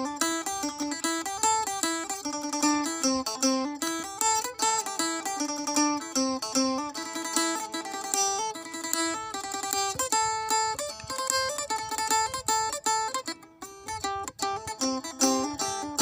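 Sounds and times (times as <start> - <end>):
plucked lute melody: 0.0 - 16.0.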